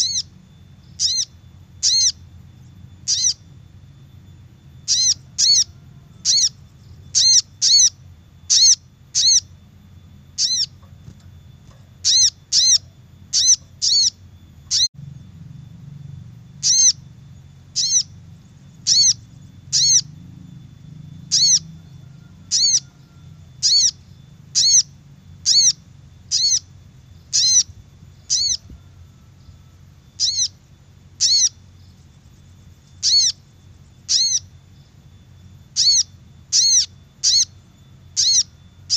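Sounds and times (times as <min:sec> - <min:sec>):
faint high-pitched tone: 0:00.0 - 0:38.9.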